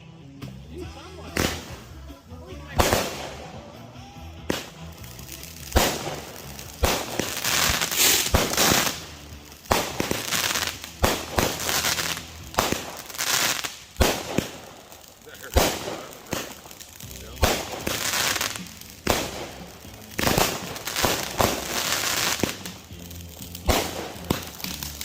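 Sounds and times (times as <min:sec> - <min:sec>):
fireworks bangs: 0:00.4 - 0:02.1, 0:02.7 - 0:03.7, 0:04.4 - 0:25.0
fireworks hissing and crackling: 0:00.4 - 0:25.0.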